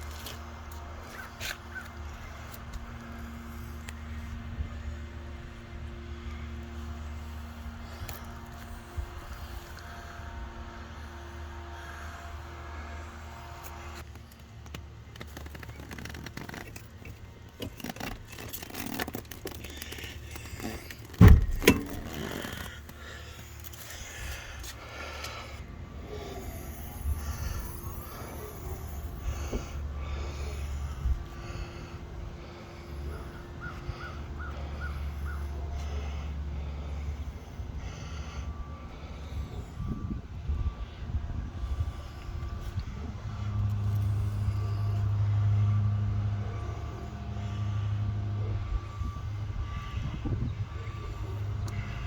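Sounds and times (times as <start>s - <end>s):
car engine idling: 0.1s - 52.0s.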